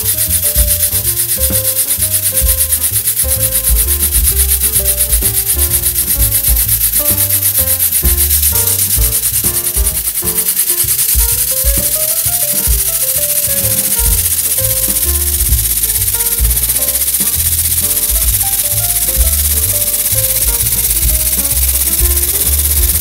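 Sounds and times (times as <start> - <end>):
background music: 0.0 - 23.0
model engine rhythmic hiss: 0.0 - 23.0.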